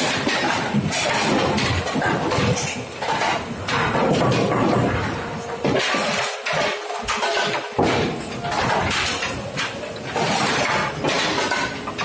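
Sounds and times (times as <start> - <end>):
bowling pins clattering: 0.0 - 12.0.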